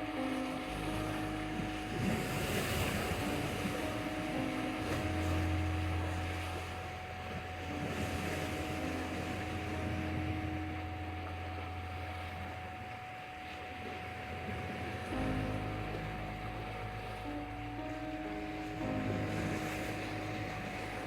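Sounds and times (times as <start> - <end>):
low drone meditation music: 0.0 - 21.0
sea waves washing on shore: 0.0 - 21.0
steady tone: 0.0 - 21.0.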